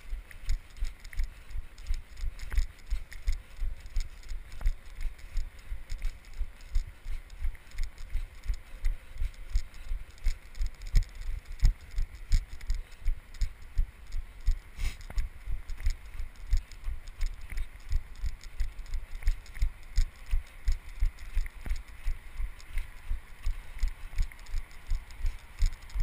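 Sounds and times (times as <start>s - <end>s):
footsteps crunching snow: 0.0s - 24.0s.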